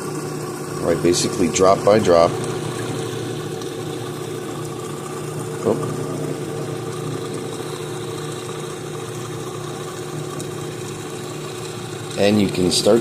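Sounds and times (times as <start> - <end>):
electric food mixer humming: 0.0 - 13.0.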